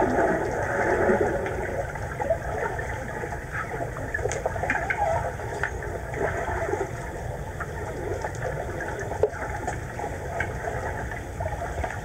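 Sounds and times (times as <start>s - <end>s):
muffled underwater rumble: 0.0s - 12.0s
small bubbling sounds: 0.0s - 12.0s.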